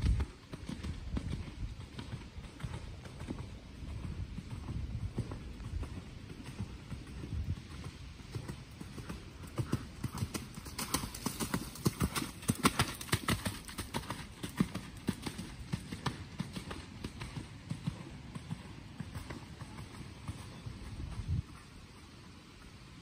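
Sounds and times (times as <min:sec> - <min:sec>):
horse hoofbeats on soft dirt: 0:00.0 - 0:23.0.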